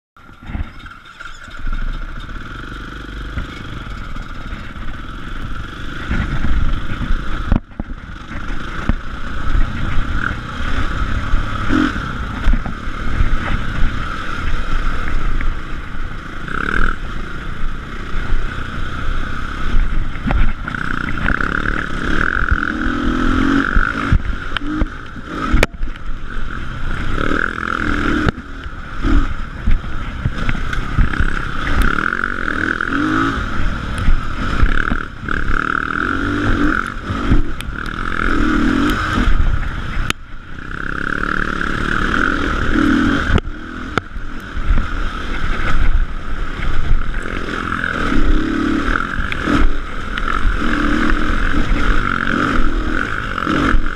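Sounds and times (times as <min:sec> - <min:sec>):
bike rattling and scraping: 0:00.2 - 0:53.9
dirt bike engine revving: 0:00.2 - 0:53.9.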